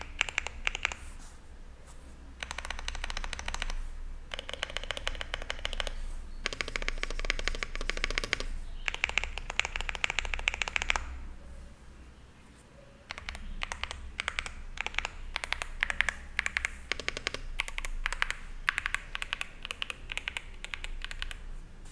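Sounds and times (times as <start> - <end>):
typing on mechanical keyboard: 0.0 - 1.1, 2.4 - 11.2, 13.1 - 21.5.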